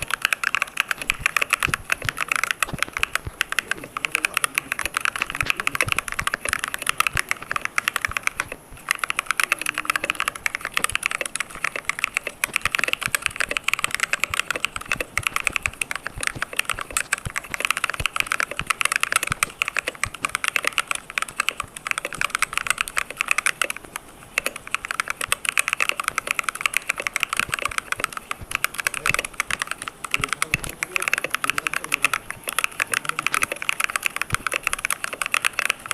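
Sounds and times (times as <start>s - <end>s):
fast typing on clicky keyboard: 0.0s - 35.9s.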